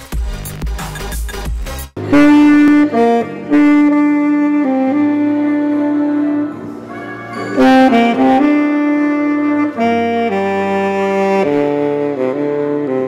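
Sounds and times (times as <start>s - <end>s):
tenor saxophone: 2.0s - 13.0s.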